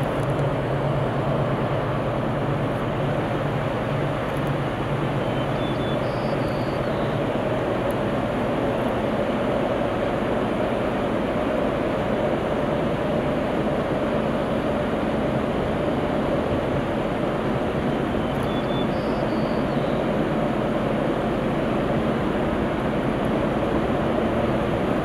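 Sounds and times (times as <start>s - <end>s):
distant freight train rumble: 0.0s - 25.0s
river rushing: 0.0s - 25.0s.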